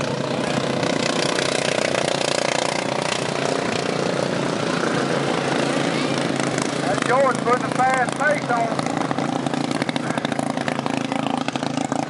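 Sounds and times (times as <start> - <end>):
racing lawn mower engines: 0.0 - 12.0.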